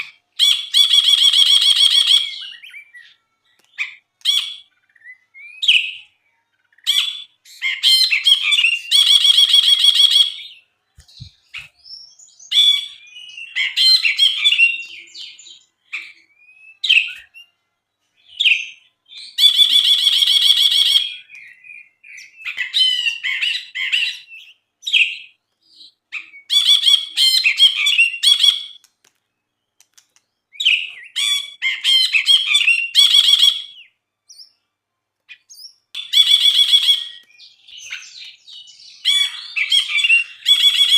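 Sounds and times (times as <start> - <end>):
bird singing whistled phrases: 0.4 - 17.6, 18.2 - 28.8, 30.4 - 34.6, 35.3 - 40.9.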